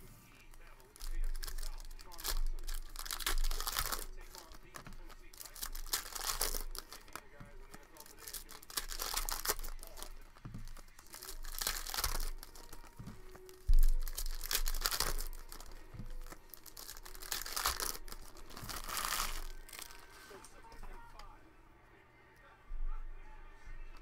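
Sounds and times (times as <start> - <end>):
foil wrapper tearing and crinkling: 0.4 - 20.3.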